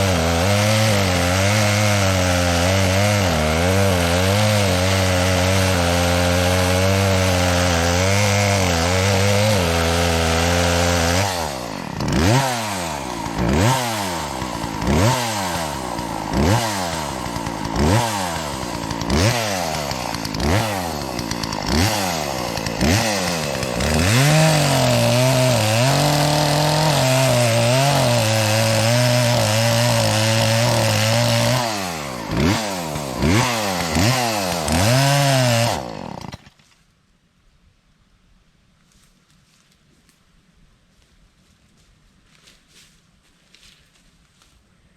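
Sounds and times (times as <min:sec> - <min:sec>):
chainsaw cutting tree trunk: 0:00.0 - 0:36.6.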